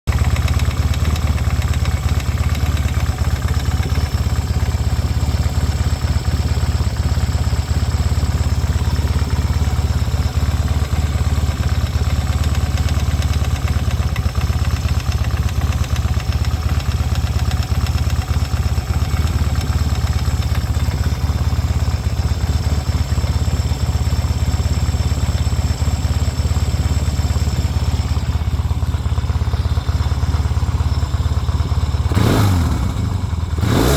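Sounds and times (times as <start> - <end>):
motorcycle engine idling with knocking: 0.0 - 33.9.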